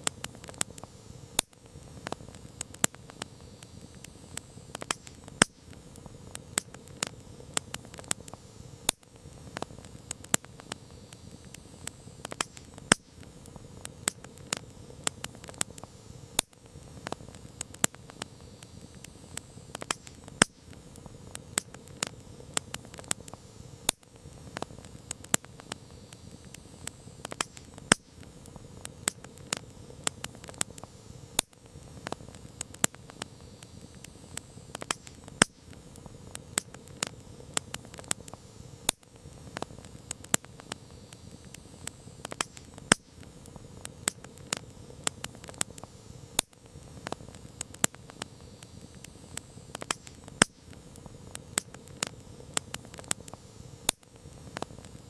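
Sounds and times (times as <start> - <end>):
burning wood popping: 0.0 - 55.0
soft hiss of flames: 0.0 - 55.0.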